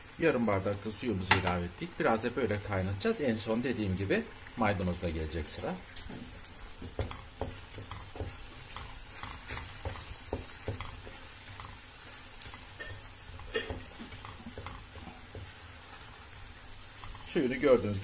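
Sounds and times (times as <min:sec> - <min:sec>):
filling sizzling: 0:00.0 - 0:18.0
wooden spoon scraping a pan: 0:01.2 - 0:18.0.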